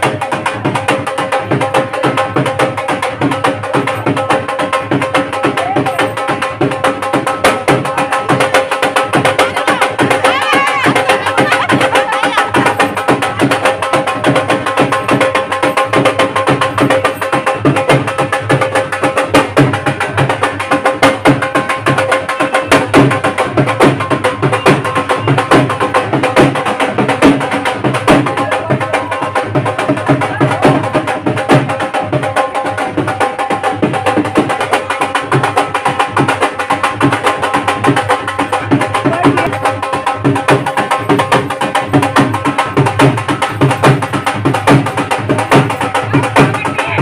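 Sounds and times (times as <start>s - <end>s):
fast dhol drumming: 0.0s - 47.0s.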